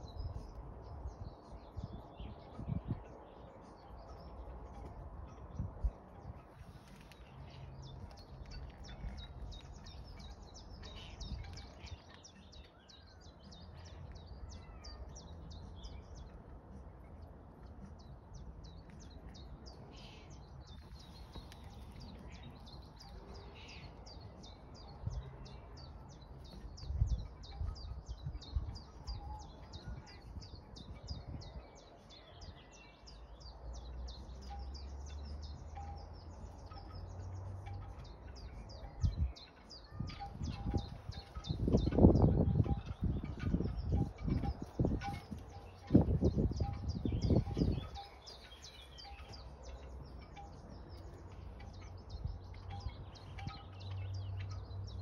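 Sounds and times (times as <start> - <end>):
birds chirping and singing: 0.0 - 55.0.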